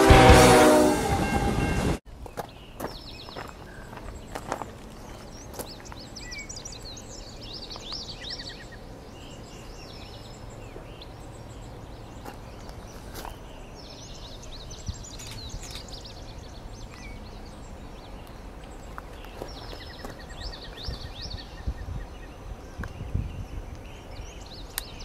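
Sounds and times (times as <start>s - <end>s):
songbirds chirping and trilling: 2.1s - 25.0s.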